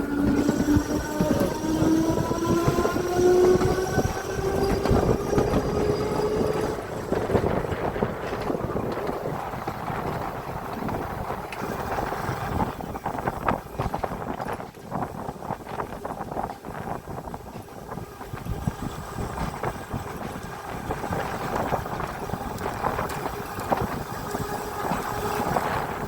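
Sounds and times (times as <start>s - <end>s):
tram motor whine: 0.0s - 26.0s
wheels rumbling on rails: 0.0s - 26.0s.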